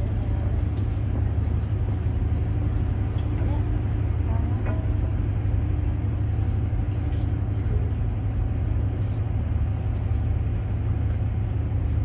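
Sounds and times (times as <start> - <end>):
city background rumble: 0.0 - 12.0
faint engine-like hum: 0.0 - 12.0.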